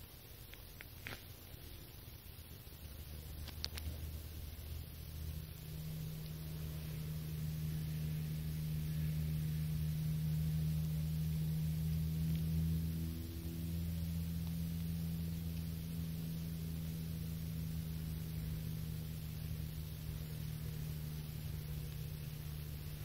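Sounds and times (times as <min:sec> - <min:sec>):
distant engine drone: 0:01.0 - 0:23.0.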